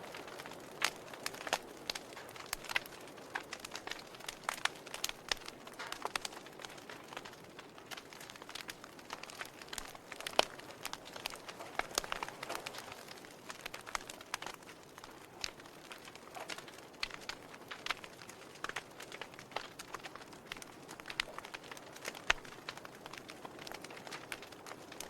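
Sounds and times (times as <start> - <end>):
soft fire hiss: 0.0 - 25.0
wood fire crackling and popping: 0.0 - 25.0.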